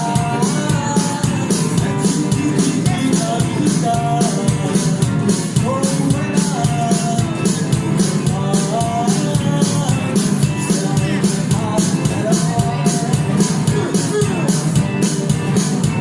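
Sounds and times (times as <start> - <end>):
bass line: 0.0 - 16.0
drum kit cymbal beat: 0.0 - 16.0
live band playing: 0.0 - 16.0.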